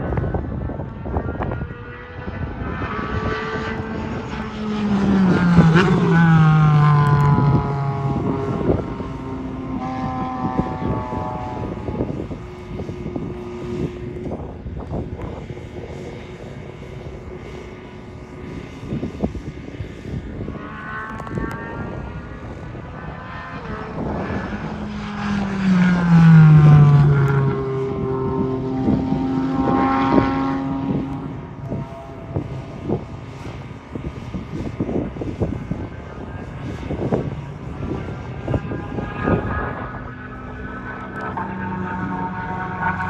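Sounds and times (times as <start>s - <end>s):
race car passing at full throttle: 0.0s - 43.0s
steady engine note: 4.0s - 43.0s.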